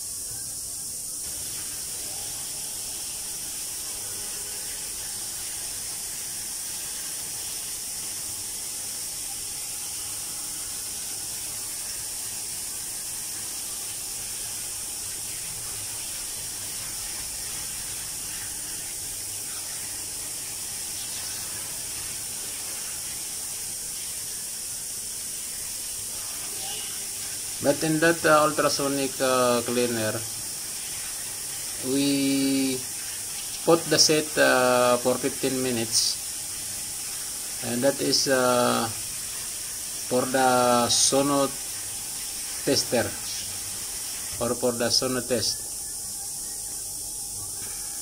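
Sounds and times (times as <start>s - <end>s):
water jet spraying: 1.2s - 45.8s.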